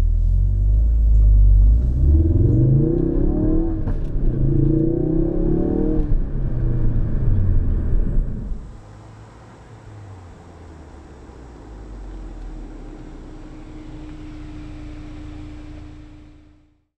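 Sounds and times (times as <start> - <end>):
car engine accelerating hard: 0.0 - 16.8.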